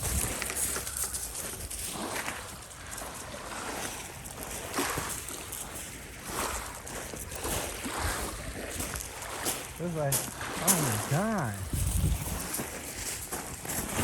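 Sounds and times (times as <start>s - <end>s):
small waves lapping: 0.0s - 14.0s.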